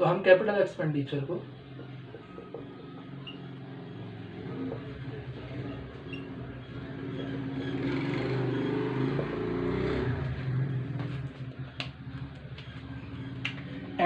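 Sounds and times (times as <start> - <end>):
vehicle engine passing by: 1.4 - 14.0.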